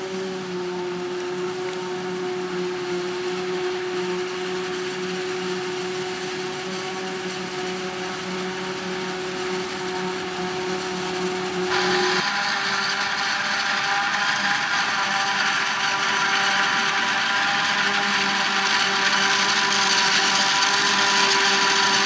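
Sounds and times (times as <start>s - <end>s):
machine whine: 0.0s - 22.0s
tractor running: 0.0s - 22.0s
forage harvester chopping maize: 2.8s - 22.0s.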